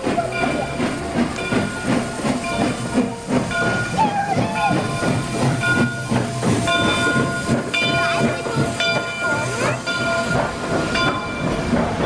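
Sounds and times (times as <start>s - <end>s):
steam train rumble and clatter: 0.0s - 12.0s.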